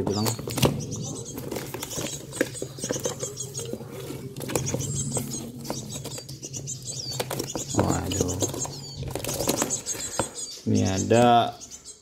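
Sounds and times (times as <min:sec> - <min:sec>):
rustling and tapping in cardboard box: 0:00.0 - 0:10.4
birds scratching on cardboard: 0:00.0 - 0:10.6.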